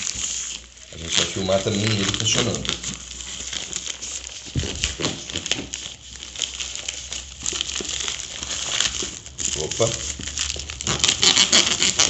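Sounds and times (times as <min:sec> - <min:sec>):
plastic bag crinkling and tearing: 0:00.0 - 0:12.0.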